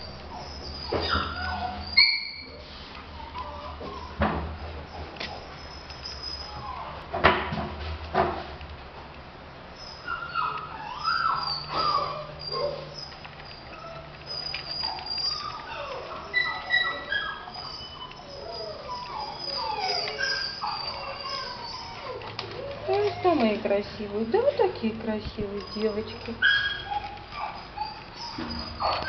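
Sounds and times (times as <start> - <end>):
dogs whining and yipping: 0.0 - 7.1, 9.7 - 29.0.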